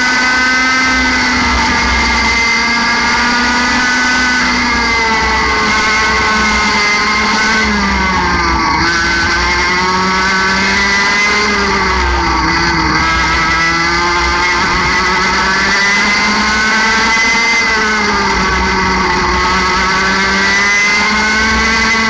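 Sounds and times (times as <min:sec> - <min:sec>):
kart engine revving: 0:00.0 - 0:22.0.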